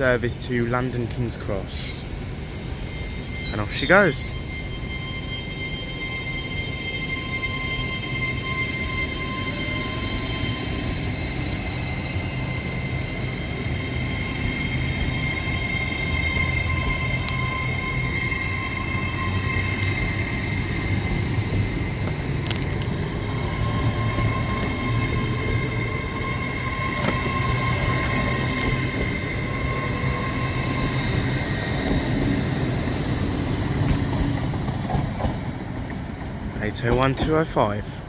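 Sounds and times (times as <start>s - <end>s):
electric train rumble and whine: 0.0s - 38.0s.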